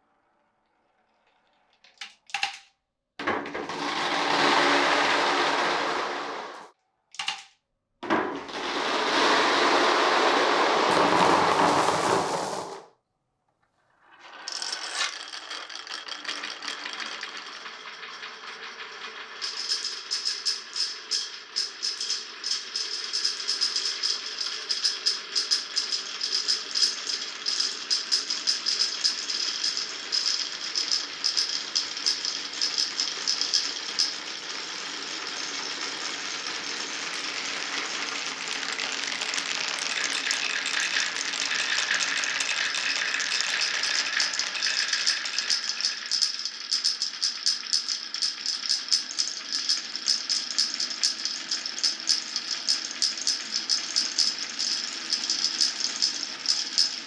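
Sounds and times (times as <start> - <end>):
marbles clattering down wooden run: 3.7 - 7.4, 8.5 - 12.8, 14.2 - 57.0.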